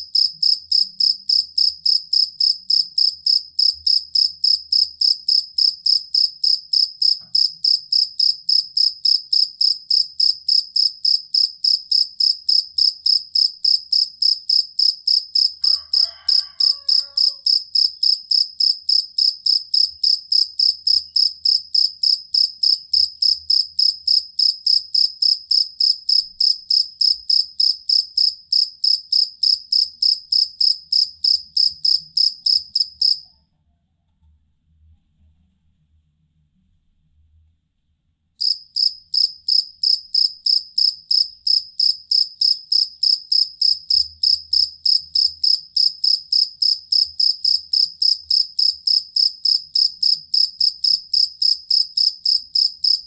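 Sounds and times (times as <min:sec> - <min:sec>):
cricket chirping: 0:00.0 - 0:33.3, 0:38.4 - 0:53.0.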